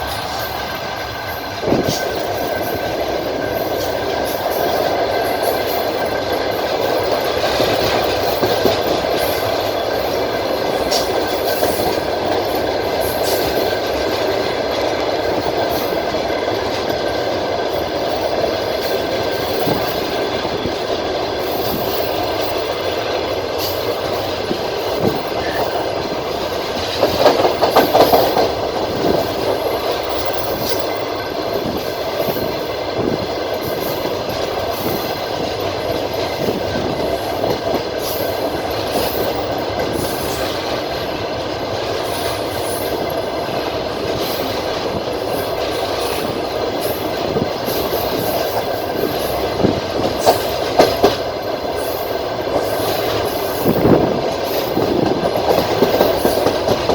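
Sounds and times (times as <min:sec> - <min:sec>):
clacks at rail joints: 0:00.0 - 0:56.9
train wheels rumbling on rails: 0:00.0 - 0:56.9.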